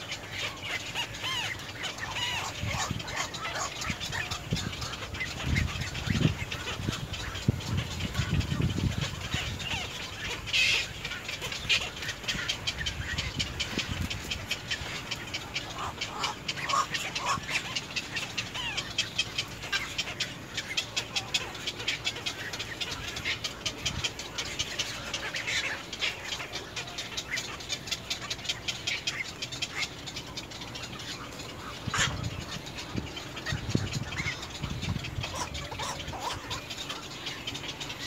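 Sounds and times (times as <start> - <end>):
birds chattering: 0.0 - 38.0.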